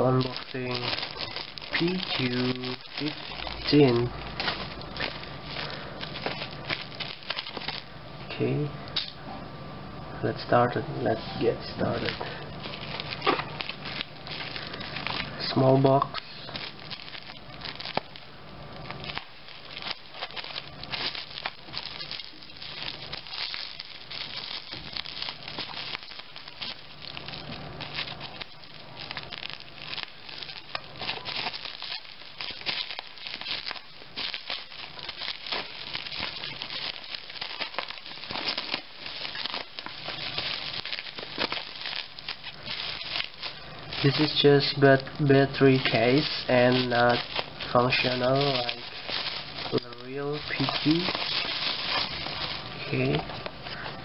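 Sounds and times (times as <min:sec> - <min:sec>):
bubble wrap packaging crinkling: 0:00.0 - 0:09.2, 0:10.5 - 0:54.0.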